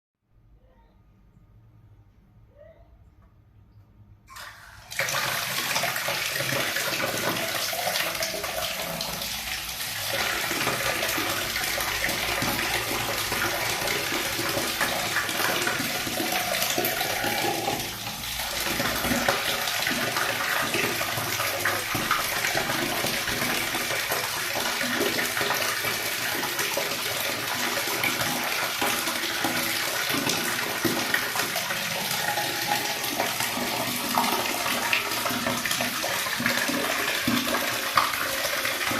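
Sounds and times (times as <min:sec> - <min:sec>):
water running from tap: 0:04.3 - 0:38.9.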